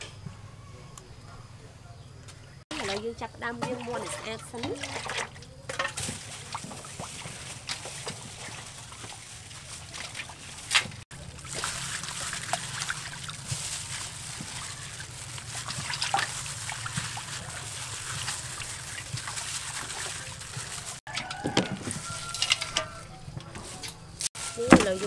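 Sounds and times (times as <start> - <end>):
water trickling: 2.7 - 23.0
water splashing in metal basin: 2.7 - 23.2.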